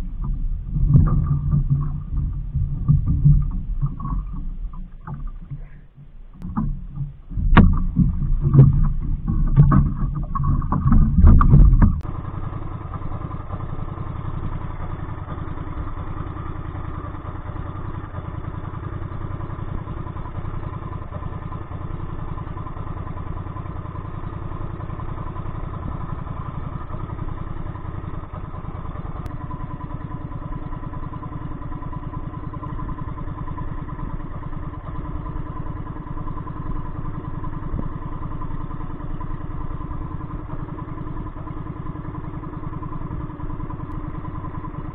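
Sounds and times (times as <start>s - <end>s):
boat engine chugging: 0.0s - 44.9s.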